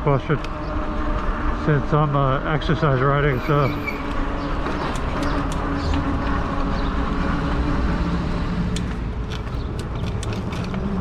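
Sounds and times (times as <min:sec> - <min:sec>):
low hum of moving bike: 0:00.0 - 0:11.0.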